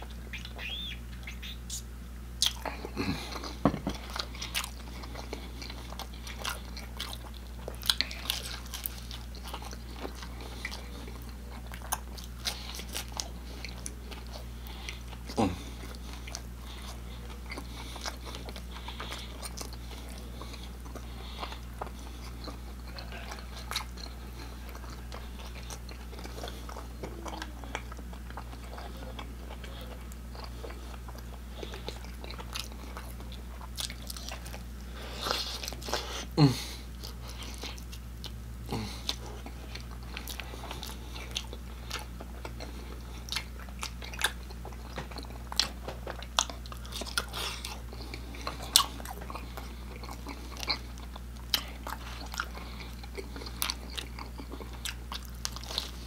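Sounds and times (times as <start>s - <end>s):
chewing with mouth clicks: 0.0s - 56.0s
pizza crust crunching: 2.4s - 56.0s.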